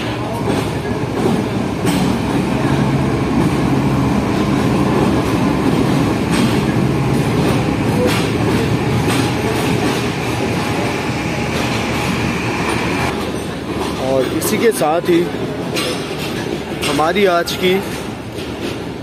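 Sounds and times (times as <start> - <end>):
train rumbling on tracks: 0.0 - 19.0
wheels clacking over rail joints: 0.0 - 19.0.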